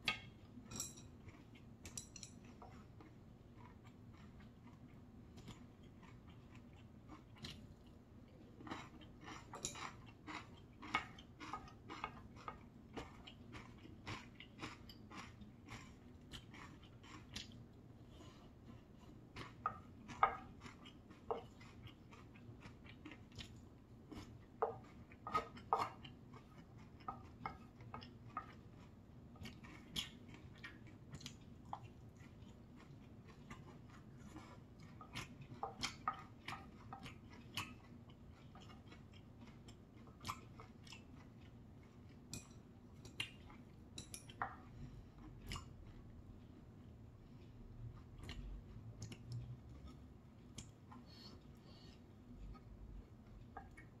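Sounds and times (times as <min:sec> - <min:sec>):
person chewing with wet mouth smacks: 0:02.5 - 0:54.0.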